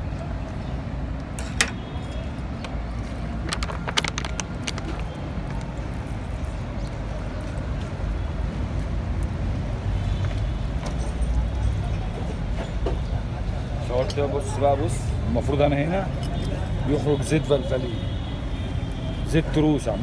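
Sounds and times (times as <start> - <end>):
background traffic rumble: 0.0 - 20.0.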